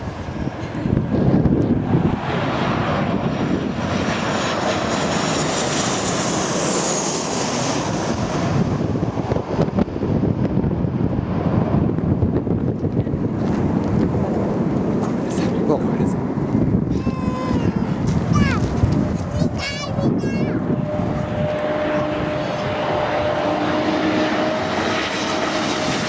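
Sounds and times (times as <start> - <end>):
airliner engine roar: 0.0 - 26.0
high jet whine: 0.0 - 26.0.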